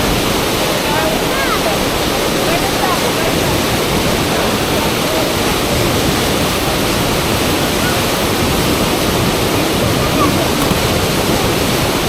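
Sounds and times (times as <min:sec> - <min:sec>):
fast river water rushing: 0:00.0 - 0:12.0.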